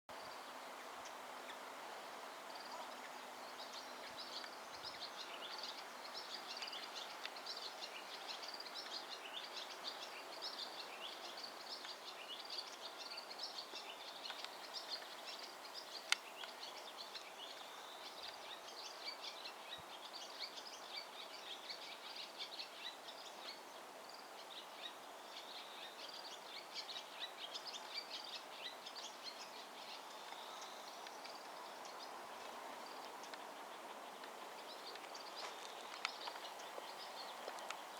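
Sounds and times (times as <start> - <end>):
outdoor background hiss: 0.1 - 37.9
small birds chirping: 0.2 - 37.9.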